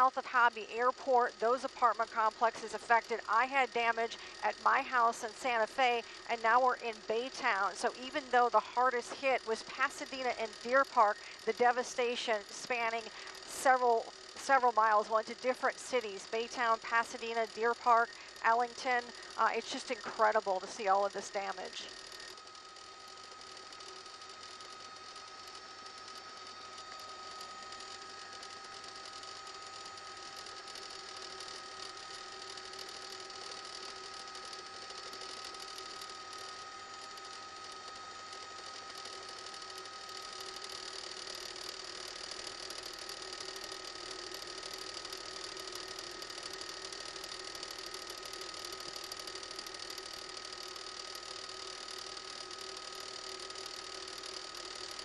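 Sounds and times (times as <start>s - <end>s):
helicopter engine and rotors: 0.0s - 55.0s.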